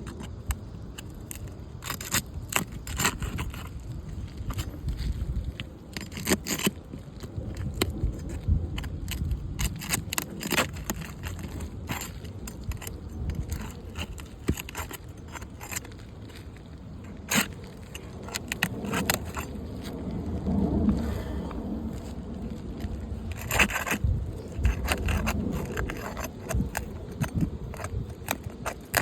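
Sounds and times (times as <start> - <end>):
hand tool scraping roof shingles: 0.0 - 29.0.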